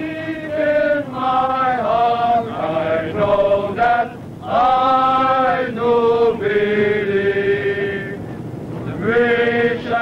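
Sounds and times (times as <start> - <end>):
crowd of men singing: 0.0 - 8.2, 8.9 - 10.0.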